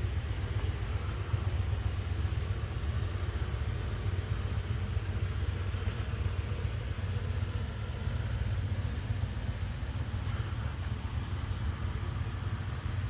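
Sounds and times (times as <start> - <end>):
air coolers roaring: 0.0 - 13.0.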